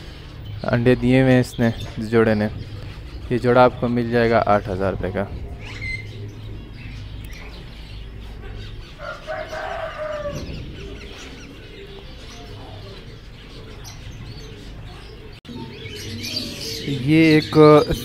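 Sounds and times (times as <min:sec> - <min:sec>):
caged birds chirping: 0:00.0 - 0:18.0.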